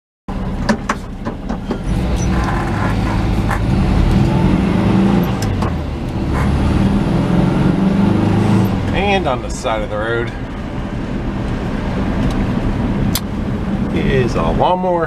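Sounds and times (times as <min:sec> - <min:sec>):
road noise: 0:00.3 - 0:15.0
truck engine hum: 0:00.3 - 0:15.0.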